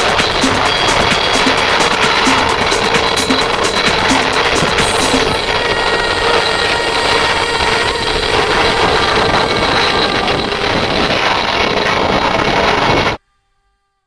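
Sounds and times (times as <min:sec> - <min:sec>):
aircraft engine noise: 0:00.0 - 0:13.2.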